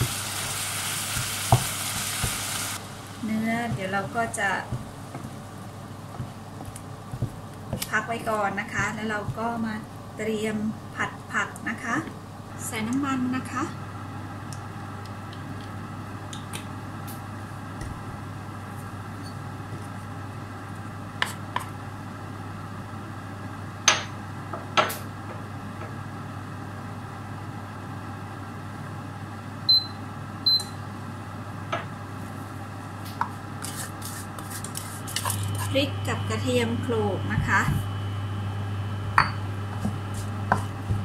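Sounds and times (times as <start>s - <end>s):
induction hob humming: 0.0s - 41.0s.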